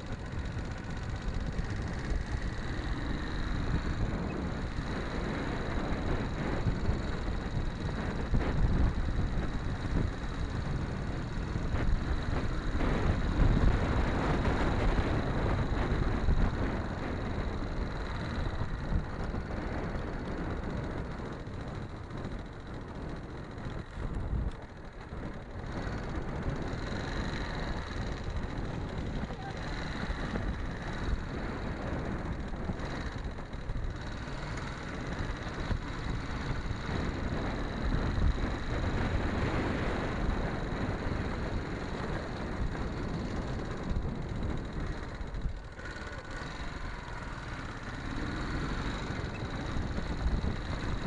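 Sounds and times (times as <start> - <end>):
motorcycle engine running: 0.0 - 51.0
wind on microphone: 0.0 - 51.0.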